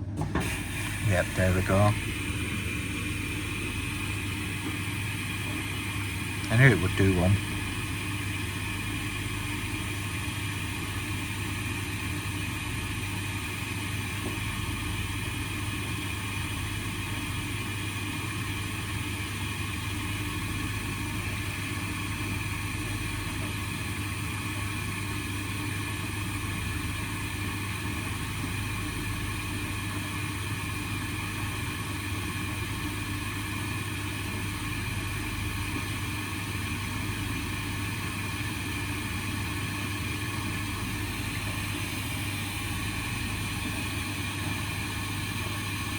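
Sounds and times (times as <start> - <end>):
washing machine humming: 0.0 - 45.9.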